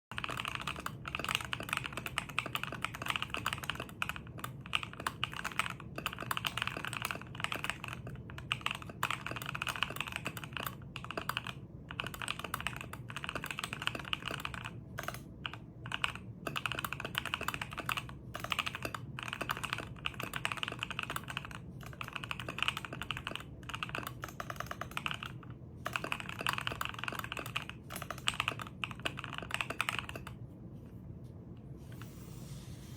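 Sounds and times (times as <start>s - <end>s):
fast keyboard typing: 0.1s - 30.4s.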